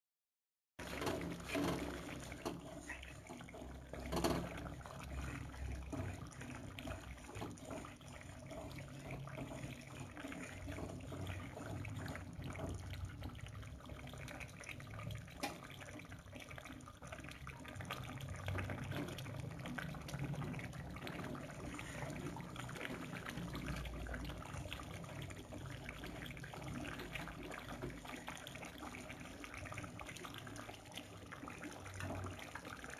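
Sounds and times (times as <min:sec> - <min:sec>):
water boiling and bubbling: 0:00.8 - 0:32.9.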